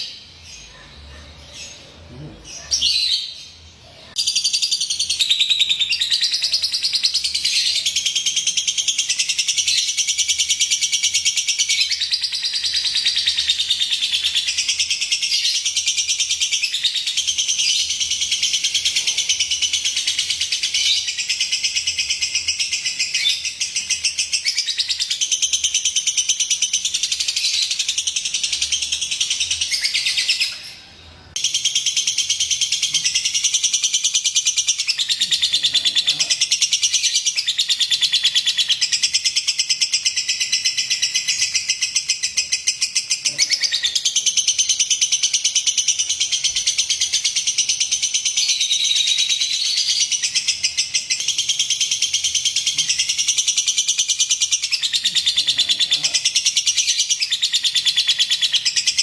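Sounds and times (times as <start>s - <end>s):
lovebird chirping rapidly: 0.0s - 30.6s, 31.3s - 59.0s.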